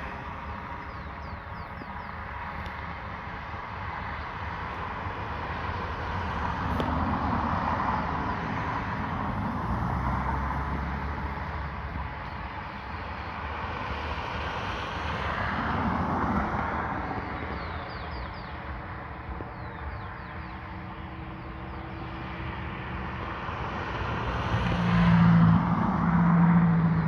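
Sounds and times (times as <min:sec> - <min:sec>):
car passing: 0:00.0 - 0:17.9, 0:21.3 - 0:27.0
vehicle engine hum passing: 0:00.0 - 0:27.0.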